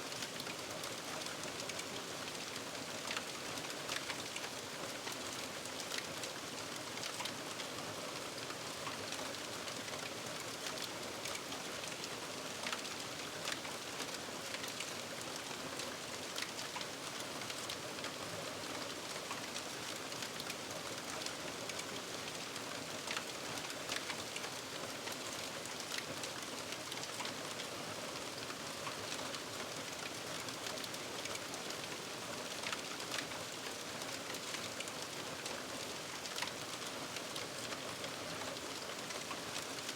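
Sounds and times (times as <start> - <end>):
small crackles and pops: 0.2 - 7.8, 8.4 - 39.9.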